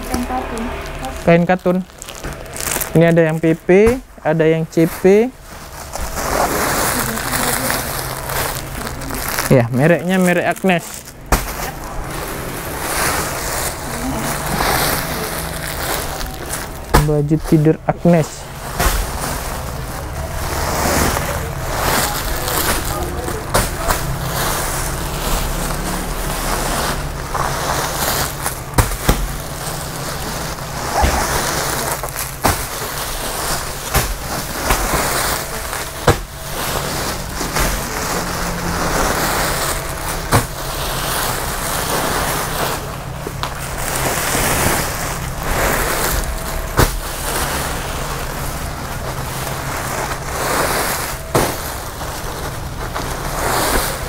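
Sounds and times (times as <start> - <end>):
plastic rustling and crinkling: 0.0 - 54.0
steady low hum: 0.0 - 54.0.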